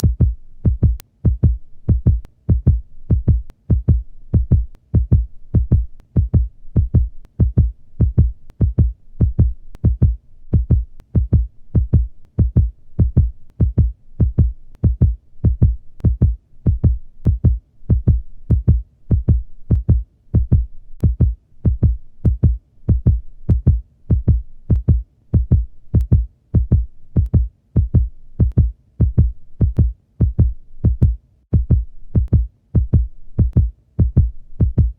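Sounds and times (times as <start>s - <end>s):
heartbeat thumps: 0.0s - 34.9s.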